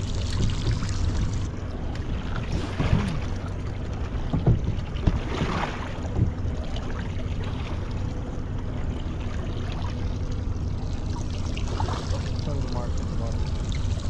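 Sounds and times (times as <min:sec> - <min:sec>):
low rumble of wind: 0:00.0 - 0:14.0
water splashing against boat hull: 0:00.0 - 0:14.0.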